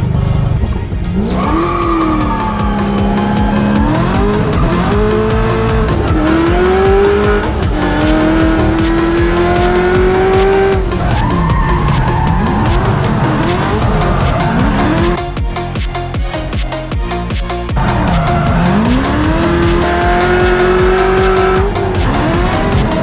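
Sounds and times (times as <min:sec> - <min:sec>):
car engine revving hard: 0:00.0 - 0:15.2, 0:17.8 - 0:23.0
electronic music with steady beat: 0:00.0 - 0:23.0
tyres skidding and squealing: 0:00.0 - 0:23.0.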